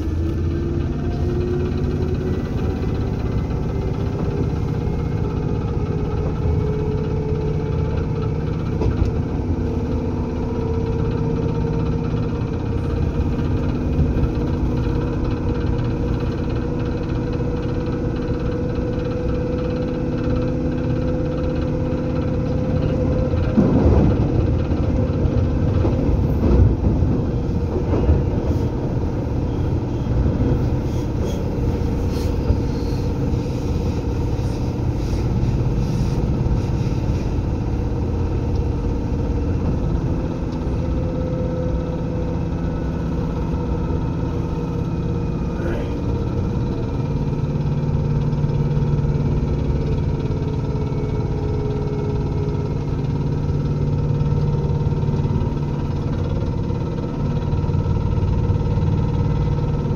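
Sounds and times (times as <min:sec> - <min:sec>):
electric train motor hum: 0:00.0 - 0:59.9
wheel and rail rumble: 0:00.0 - 0:59.9.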